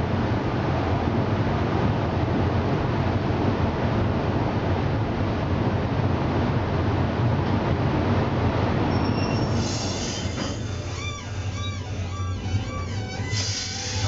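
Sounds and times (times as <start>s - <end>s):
underground train rumbling on track: 0.0s - 14.0s.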